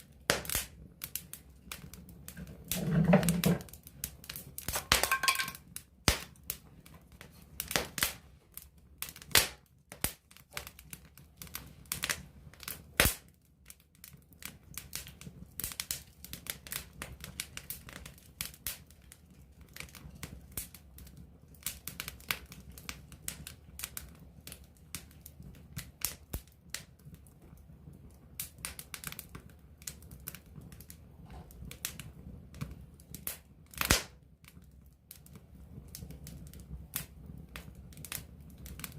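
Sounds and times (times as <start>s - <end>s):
campfire crackling and popping: 0.0s - 38.9s
low rumble of flames: 0.0s - 38.9s.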